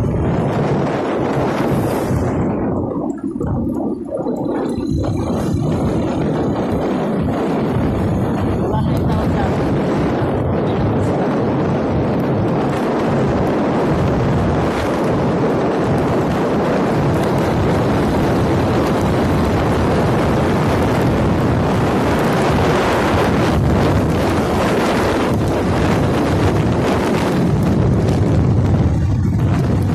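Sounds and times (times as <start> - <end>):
motorcycle road noise: 0.0 - 29.9
wind rush on microphone: 0.0 - 29.9.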